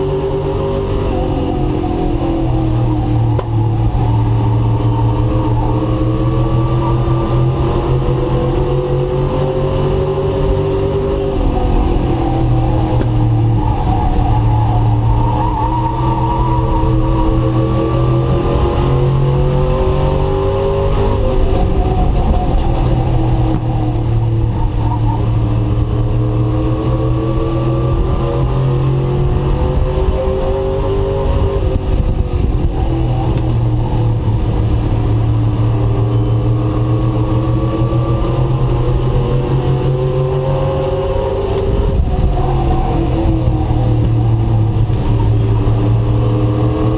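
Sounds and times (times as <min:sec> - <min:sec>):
race truck engine revving: 0:00.0 - 0:46.9.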